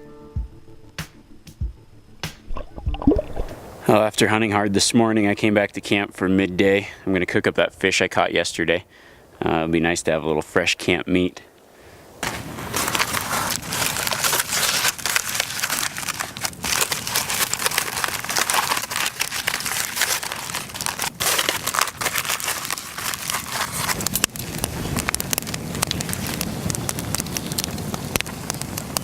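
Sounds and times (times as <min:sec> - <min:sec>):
campfire crackling: 0:02.4 - 0:29.0.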